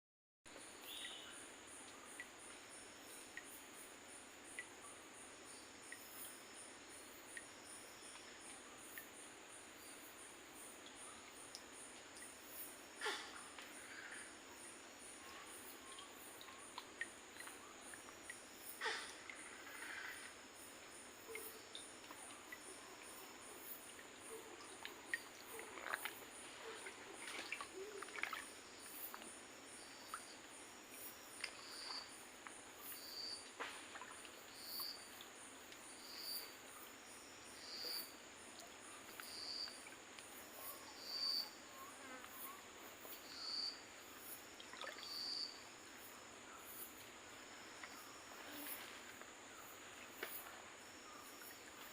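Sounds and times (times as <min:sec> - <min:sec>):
insects chirring: 0:00.5 - 0:51.9.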